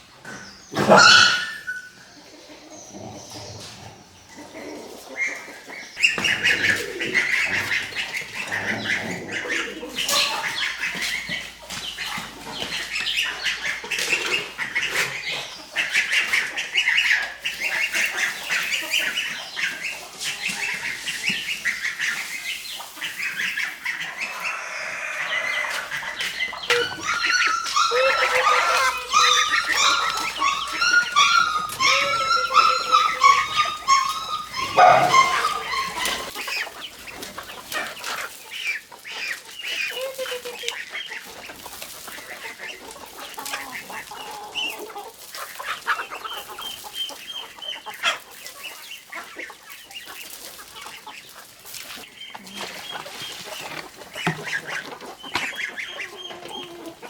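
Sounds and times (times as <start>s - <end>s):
lower poultry calls: 0.7s - 57.0s
poultry high chirps: 5.2s - 56.9s.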